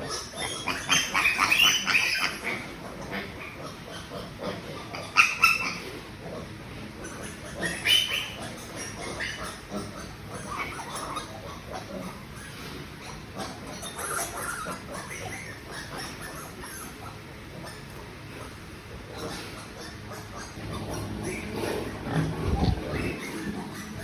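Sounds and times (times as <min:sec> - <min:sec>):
piglets squealing: 0:00.0 - 0:24.0.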